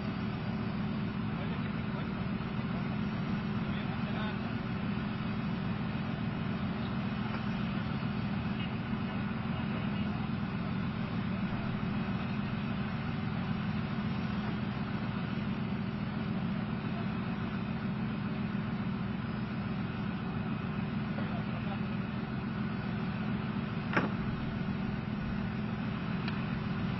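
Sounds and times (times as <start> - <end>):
diesel engines idling: 0.0 - 26.9.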